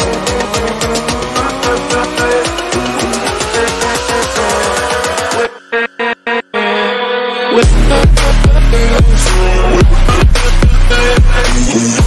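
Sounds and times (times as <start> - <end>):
fast beat music with sliding bass: 0.0 - 6.0, 7.6 - 12.0.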